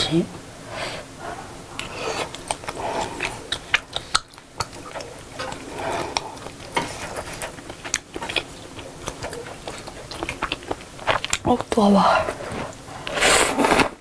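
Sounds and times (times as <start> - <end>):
chewing and wet mouth sounds: 1.3 - 13.8.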